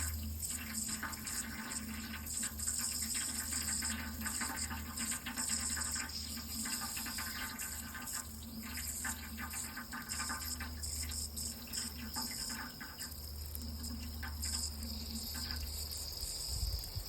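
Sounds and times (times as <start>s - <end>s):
steady low hum: 0.0s - 17.0s
water running: 0.0s - 17.0s.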